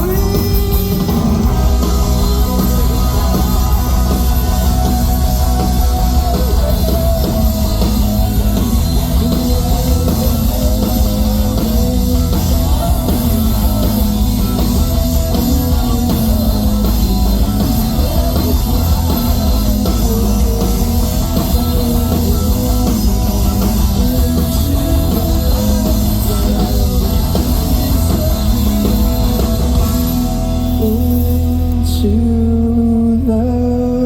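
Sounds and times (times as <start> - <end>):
drum kit: 0.0 - 32.0
distorted electric guitars: 0.0 - 34.0
rock band playing live: 0.0 - 34.0.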